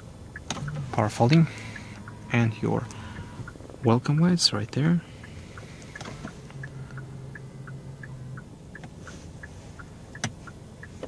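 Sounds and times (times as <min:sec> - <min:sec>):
light regular ticking: 0:00.2 - 0:11.0
mirror motor humming: 0:00.5 - 0:03.8, 0:05.1 - 0:11.0.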